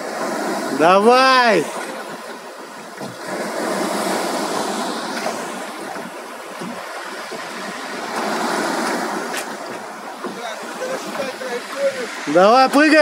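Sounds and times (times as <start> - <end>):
water lapping around rowboat: 0.0 - 13.0.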